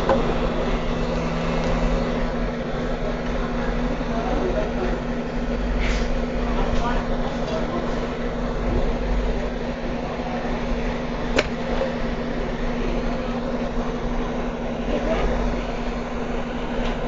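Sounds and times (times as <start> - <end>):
hot air station blowing: 0.0 - 17.0.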